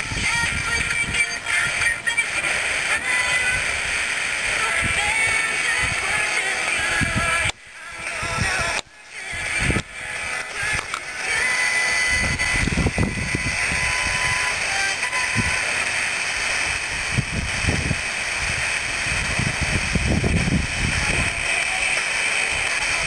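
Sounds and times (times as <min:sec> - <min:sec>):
distorted broadcast audio: 0:00.0 - 0:23.0
radio receiver hiss: 0:00.0 - 0:23.0.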